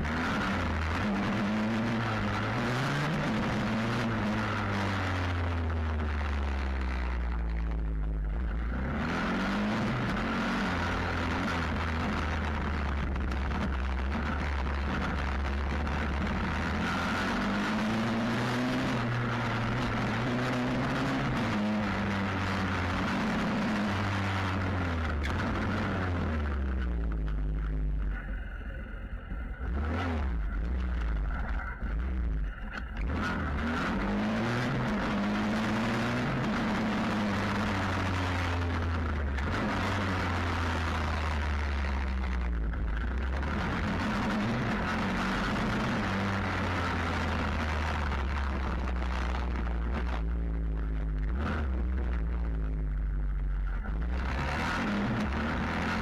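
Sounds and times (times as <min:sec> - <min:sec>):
motorcycle engine revving: 0:00.0 - 0:28.4, 0:29.3 - 0:56.0
steady rushing noise: 0:00.0 - 0:56.0.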